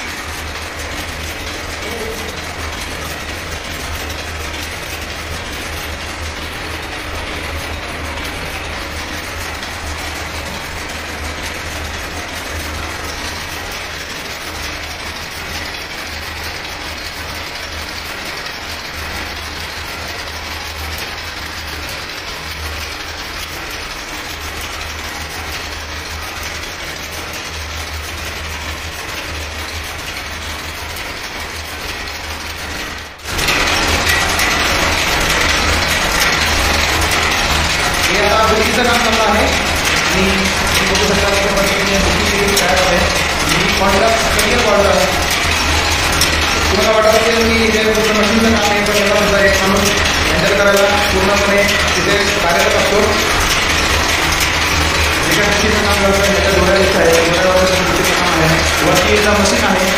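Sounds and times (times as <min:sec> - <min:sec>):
handloom clattering and rattling: 0:00.0 - 0:59.9.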